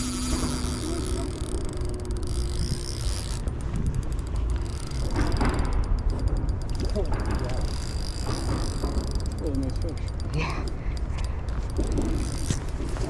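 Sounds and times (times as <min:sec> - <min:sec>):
fishing reel ticking: 0:00.0 - 0:13.0.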